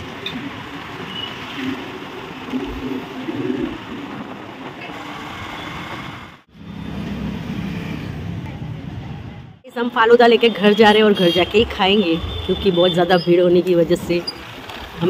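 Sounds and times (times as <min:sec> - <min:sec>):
city traffic: 0:00.0 - 0:15.0
scooter wind and road noise: 0:00.0 - 0:15.0.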